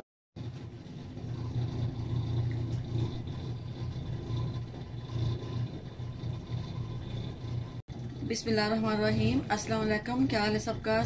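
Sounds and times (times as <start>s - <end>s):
low background hum: 0.4s - 11.0s.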